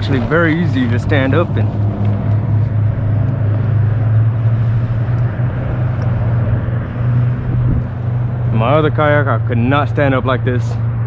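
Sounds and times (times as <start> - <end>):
low drone with rushing noise: 0.0 - 11.0.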